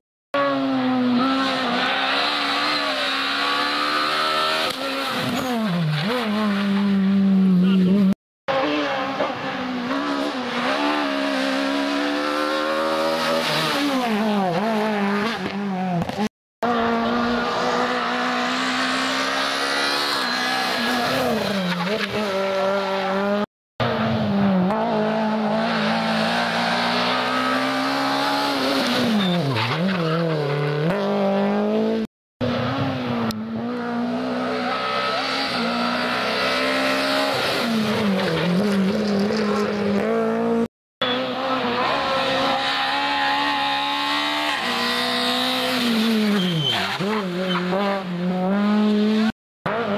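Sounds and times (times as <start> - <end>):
rally car engines revving: 0.4 - 49.9.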